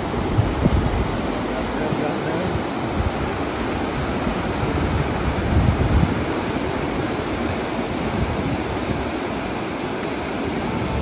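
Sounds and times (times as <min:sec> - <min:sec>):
water rushing over rapids: 0:00.0 - 0:11.0
wind buffeting microphone: 0:00.0 - 0:11.0.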